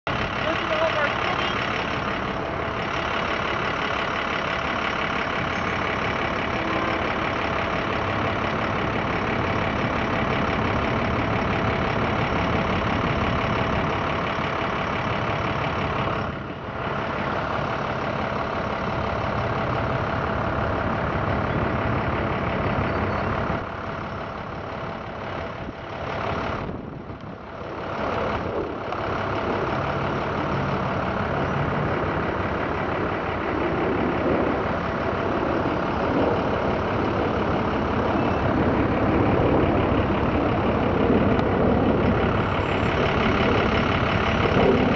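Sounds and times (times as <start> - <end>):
street traffic: 0.0 - 44.9.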